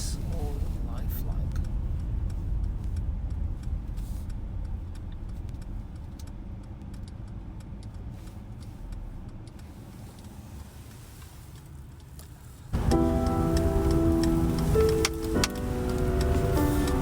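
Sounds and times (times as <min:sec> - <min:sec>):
vehicle cabin rumble: 0:00.0 - 0:17.0
faint ticks: 0:01.5 - 0:17.0.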